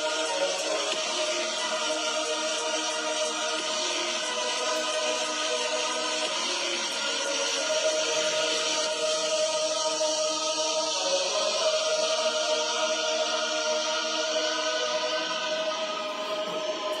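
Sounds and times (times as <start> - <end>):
choir-like sustained chords: 0.0 - 17.0.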